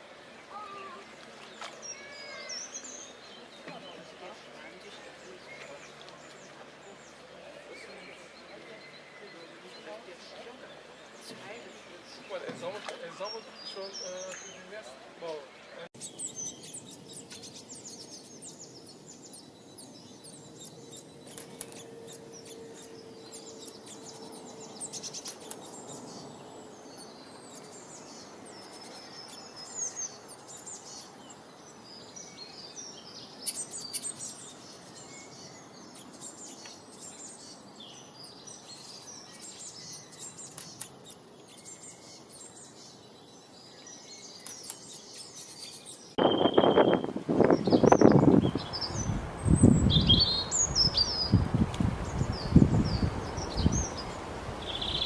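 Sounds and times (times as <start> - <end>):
small birds chirping: 0.0 - 55.0
steady outdoor hiss: 0.0 - 55.0.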